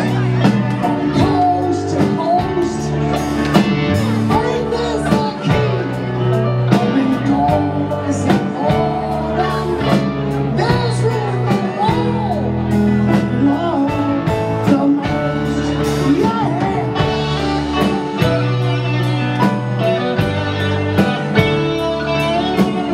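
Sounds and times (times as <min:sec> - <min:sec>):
man singing: 0:00.0 - 0:20.3, 0:21.0 - 0:22.9
blues-rock band playing: 0:00.0 - 0:22.9.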